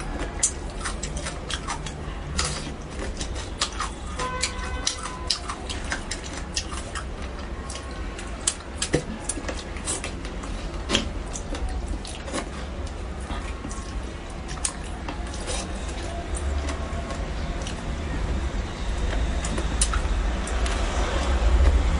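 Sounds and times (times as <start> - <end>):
person chewing wetly: 0.0 - 21.9
steady low hum: 0.0 - 21.9.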